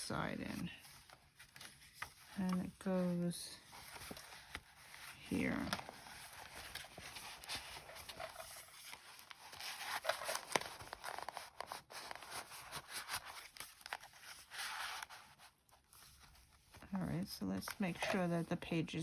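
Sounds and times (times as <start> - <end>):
paper rustling and scraping: 0.0 - 18.8.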